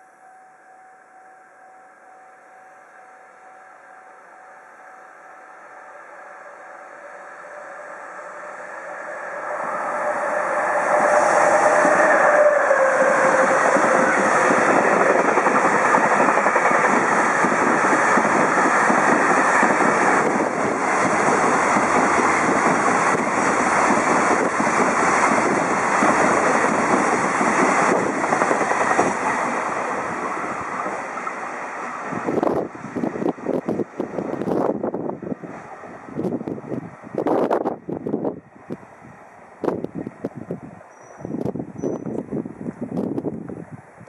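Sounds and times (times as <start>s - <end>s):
locomotive whine: 0.0s - 44.0s.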